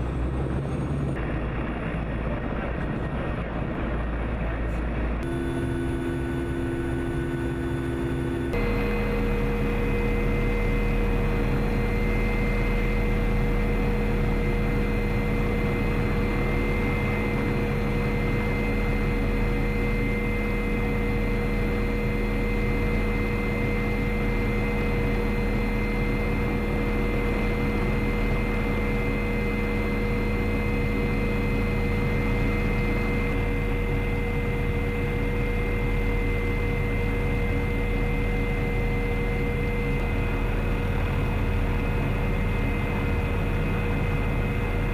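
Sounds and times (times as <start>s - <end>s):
helicopter turbine engine whine: 0.0s - 44.9s.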